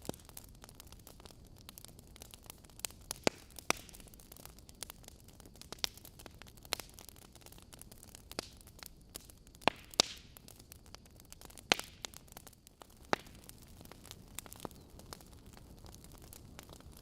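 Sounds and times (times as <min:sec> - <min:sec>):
faint steady hiss: 0:00.0 - 0:17.0
fireplace logs crackling: 0:00.0 - 0:17.0.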